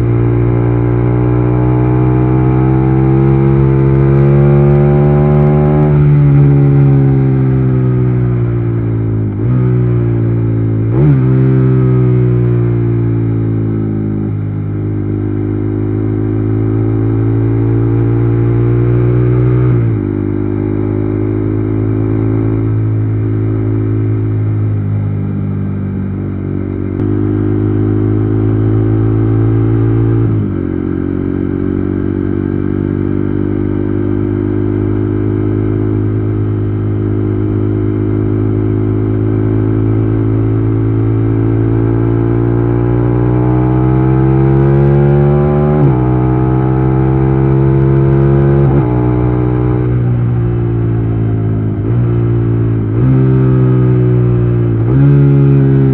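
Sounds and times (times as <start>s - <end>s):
motorcycle engine shifting gears: 0.0s - 55.9s.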